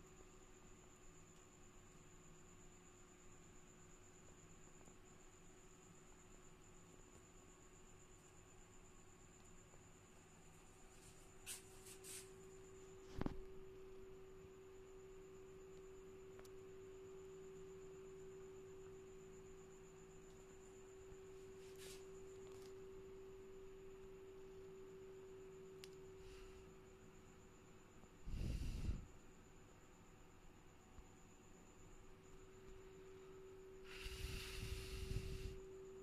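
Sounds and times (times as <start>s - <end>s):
faint high whine: 0.0s - 36.0s
faint steady low hum: 0.0s - 36.0s.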